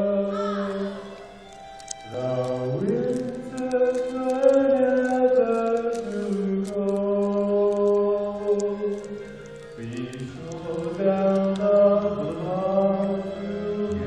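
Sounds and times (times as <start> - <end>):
musical accompaniment: 0.0 - 14.0
voices singing long notes: 0.0 - 14.0.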